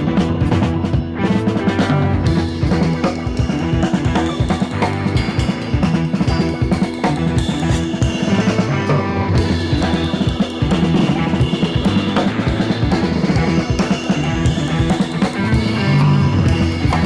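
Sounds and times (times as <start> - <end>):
rock music with drums: 0.0 - 17.0.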